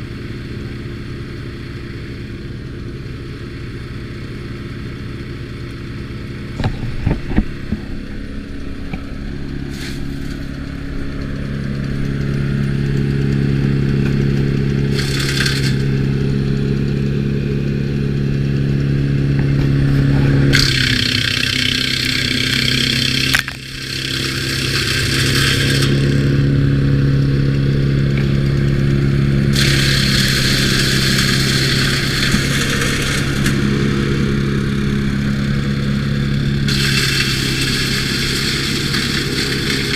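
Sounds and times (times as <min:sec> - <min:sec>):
wood chipper engine running: 0:00.0 - 0:39.9
wood being chipped: 0:06.5 - 0:18.3, 0:19.2 - 0:39.9.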